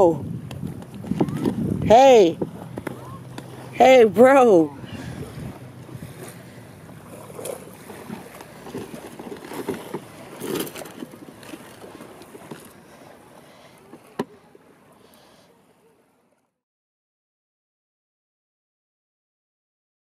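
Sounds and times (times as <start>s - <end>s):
water noise: 0.0s - 16.6s
wind: 0.0s - 16.6s.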